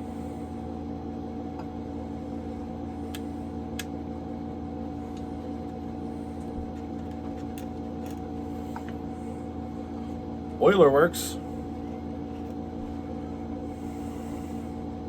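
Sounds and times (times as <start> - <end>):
electrical fan hum: 0.0 - 15.0.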